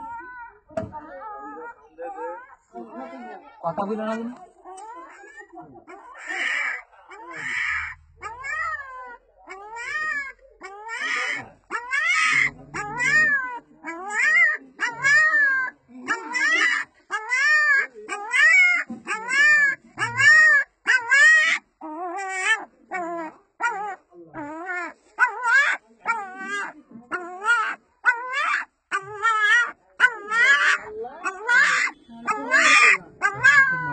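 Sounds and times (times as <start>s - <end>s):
puppy whining cries: 0.0s - 2.6s, 4.6s - 33.9s.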